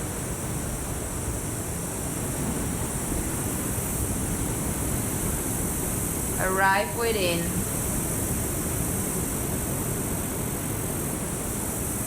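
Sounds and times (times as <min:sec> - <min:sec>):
constant high hiss: 0:00.0 - 0:12.0.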